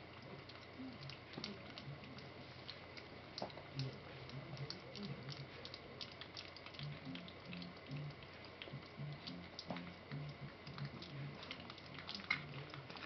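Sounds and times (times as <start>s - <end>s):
puppies lapping food: 0.0s - 13.0s.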